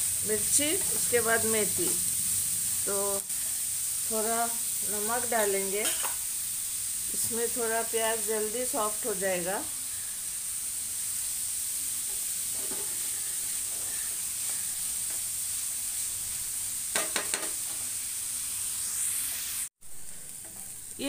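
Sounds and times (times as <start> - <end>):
onions sizzling in oil: 0.0 - 21.0.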